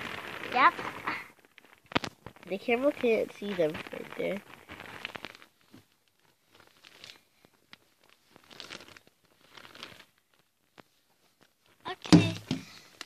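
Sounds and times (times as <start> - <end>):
blanket rustling: 0.0 - 12.0.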